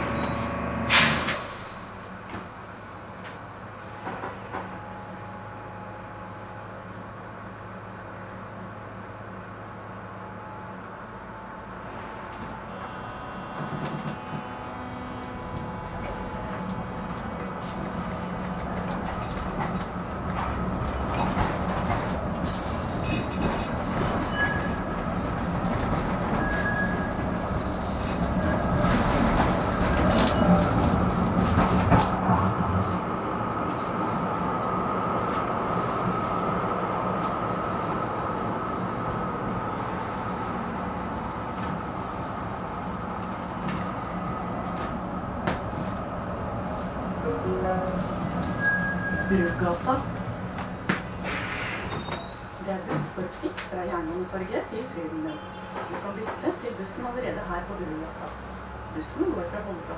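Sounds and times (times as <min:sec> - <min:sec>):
tram rumbling on rails: 0:00.0 - 0:59.9.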